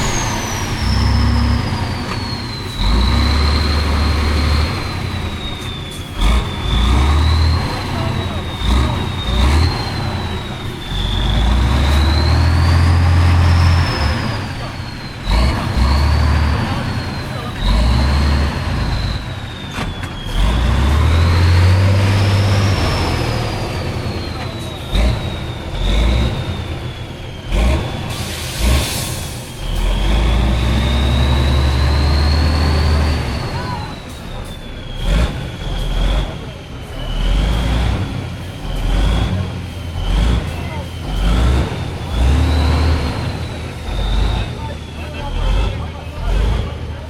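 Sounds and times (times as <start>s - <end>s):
diesel truck engine revving: 0.0s - 47.0s.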